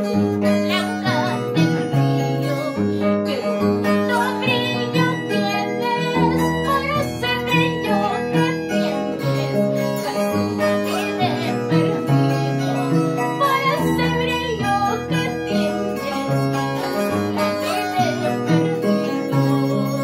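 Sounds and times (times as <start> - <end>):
plucked string instruments: 0.0 - 20.0
woman singing: 0.0 - 20.0.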